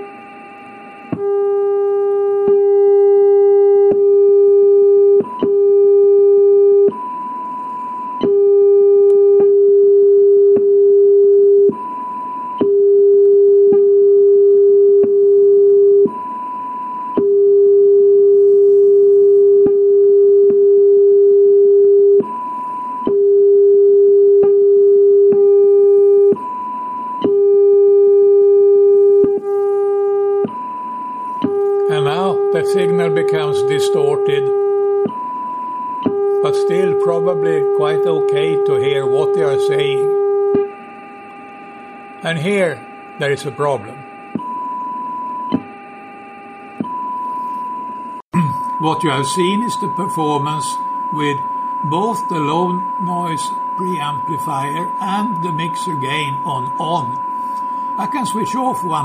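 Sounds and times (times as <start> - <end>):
loud low test tone: 0.0 - 59.0.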